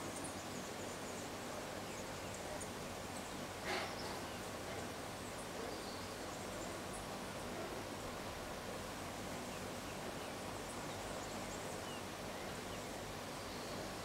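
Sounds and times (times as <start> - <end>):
outdoor evening hiss: 0.0 - 14.0.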